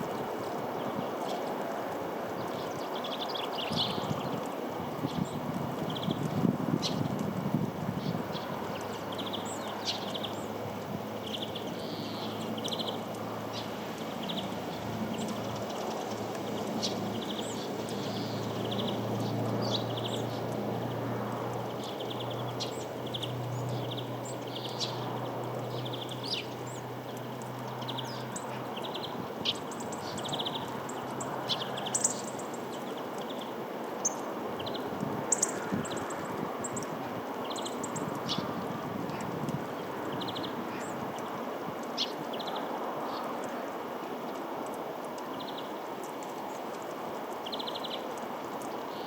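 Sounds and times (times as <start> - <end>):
outdoor background noise: 0.0 - 49.0
songbirds chirping and trilling: 0.0 - 49.0.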